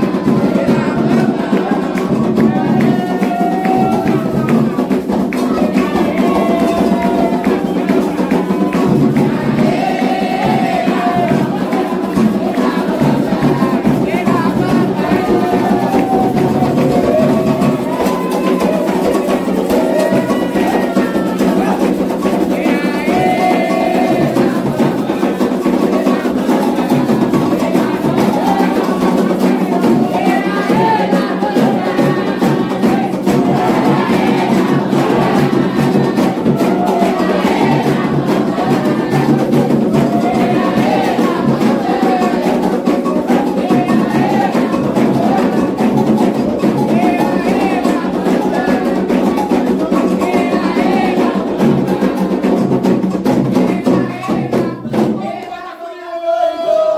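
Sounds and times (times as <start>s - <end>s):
hand drums: 0.0s - 55.5s
group singing: 0.0s - 56.9s.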